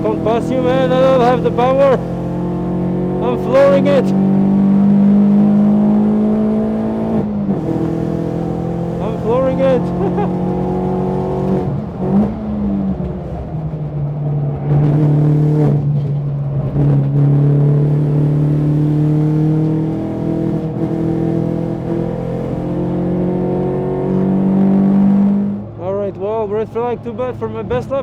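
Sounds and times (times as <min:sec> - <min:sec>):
race car engine at full throttle: 0:00.0 - 0:28.0.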